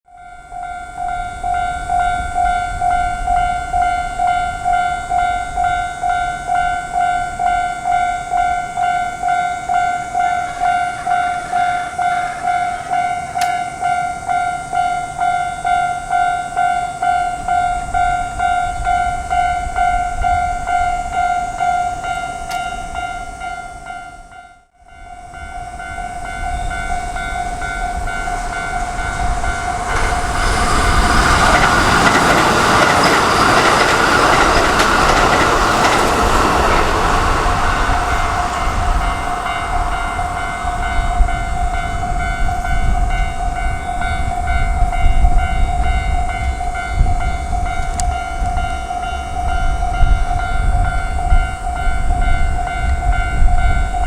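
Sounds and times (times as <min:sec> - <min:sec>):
level crossing warning bell: 0:00.1 - 0:54.0
train passing: 0:00.1 - 0:54.0
train wheel clacks: 0:01.1 - 0:20.9, 0:26.3 - 0:54.0.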